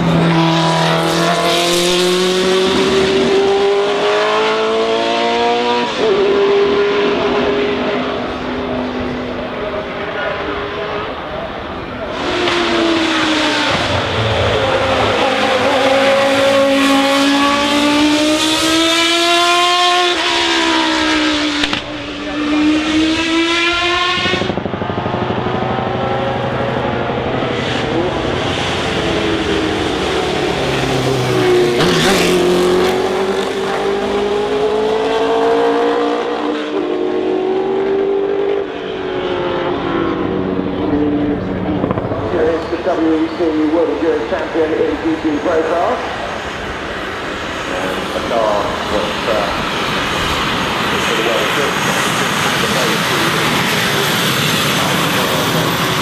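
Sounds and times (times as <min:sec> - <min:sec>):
racing car engines at high revs: 0:00.0 - 0:56.0.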